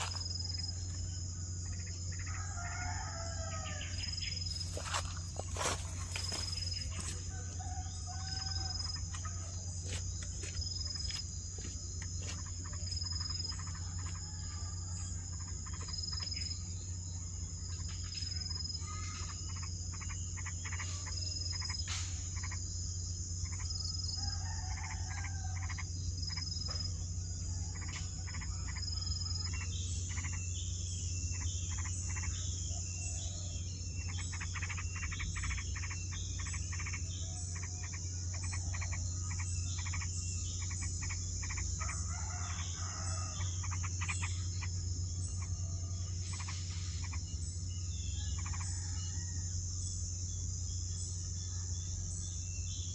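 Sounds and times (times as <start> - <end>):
insects droning: 0.0 - 52.9
steady low hum: 0.0 - 52.9.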